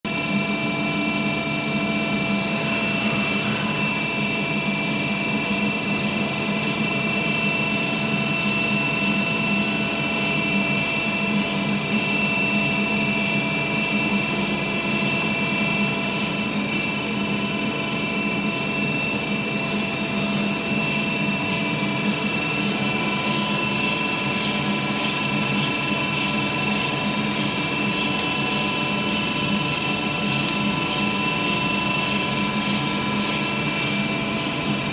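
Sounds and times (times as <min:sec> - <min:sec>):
high steady whining tones: 0:00.1 - 0:34.9
grinder machine hum: 0:00.4 - 0:34.9.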